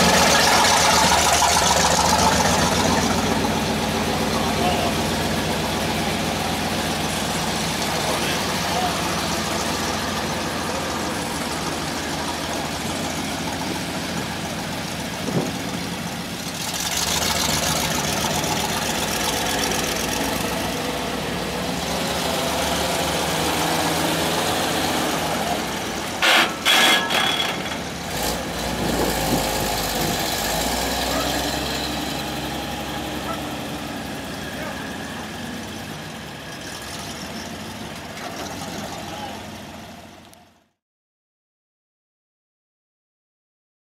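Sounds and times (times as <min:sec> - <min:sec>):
truck engine running: 0:00.0 - 0:40.6.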